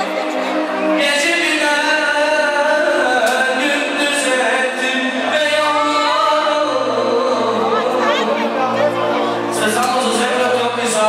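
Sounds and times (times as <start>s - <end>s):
man singing into microphone: 0.0s - 11.0s.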